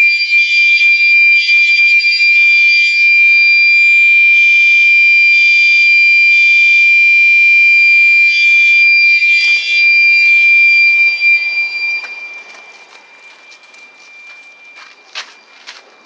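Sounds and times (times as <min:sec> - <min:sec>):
fire alarm tone: 0:00.0 - 0:16.0.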